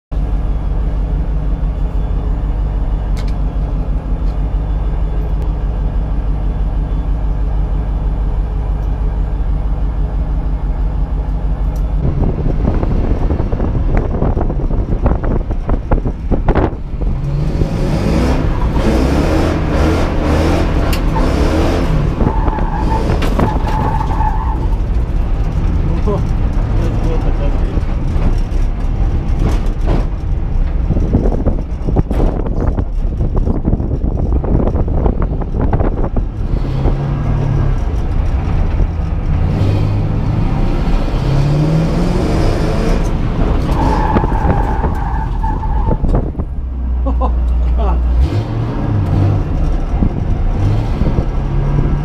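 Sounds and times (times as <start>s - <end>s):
car engine idling and revving: 0.1s - 52.0s.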